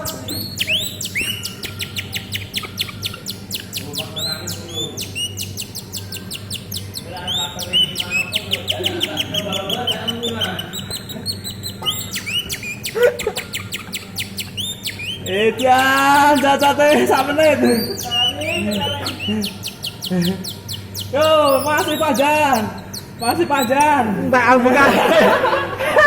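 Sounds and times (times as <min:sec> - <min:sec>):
canary singing: 0:00.0 - 0:25.2
steady low hum: 0:00.0 - 0:26.0.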